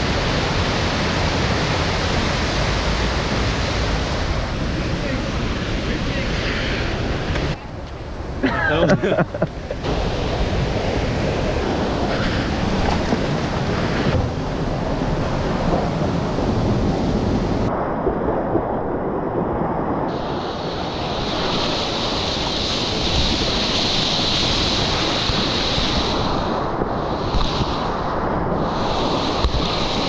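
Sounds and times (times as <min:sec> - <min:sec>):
whitewater rushing: 0:00.0 - 0:17.9, 0:20.1 - 0:30.0
wind buffeting microphone: 0:00.0 - 0:30.0.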